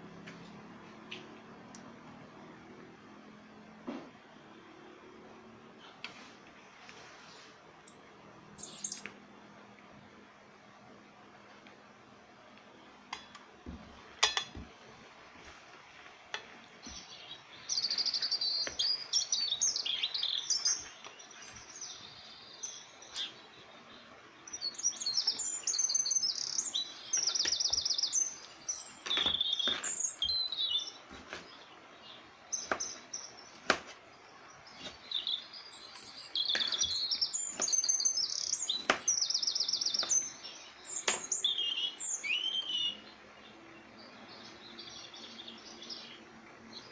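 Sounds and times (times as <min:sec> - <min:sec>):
songbirds chirping and trilling: 0:00.0 - 0:46.9.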